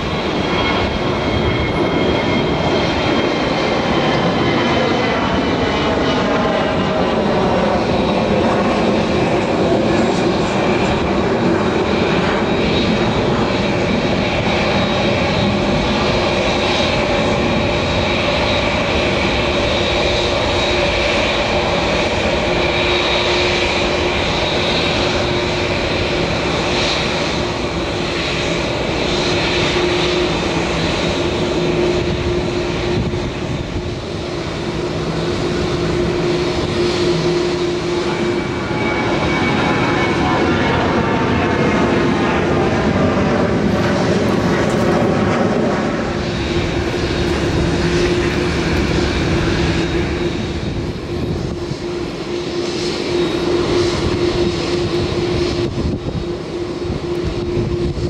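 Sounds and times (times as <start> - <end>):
jet engine hum: 0.0 - 58.0
jet passing: 0.0 - 58.0.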